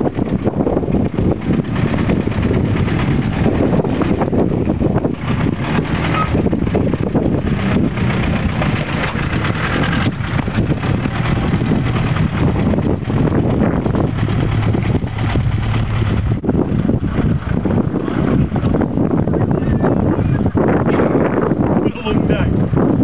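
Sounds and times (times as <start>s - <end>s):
car engine idling: 0.0s - 22.8s.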